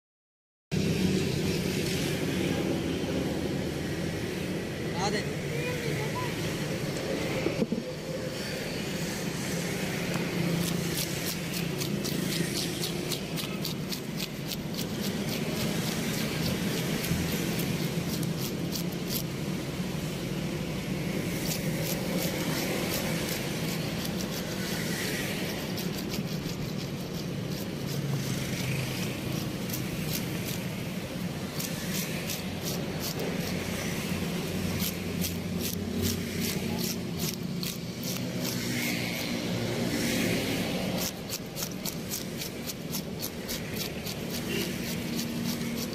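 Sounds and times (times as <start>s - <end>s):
road traffic rumble: 0.7s - 45.9s
cleaver scraping fish scales: 8.3s - 45.9s.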